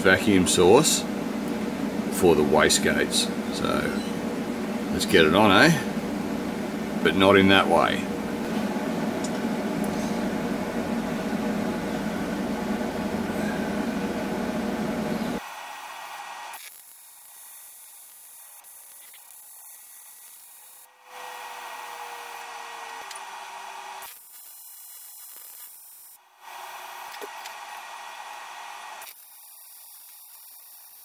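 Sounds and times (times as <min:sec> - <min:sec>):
welding arc hiss and buzz: 0:00.0 - 0:31.0.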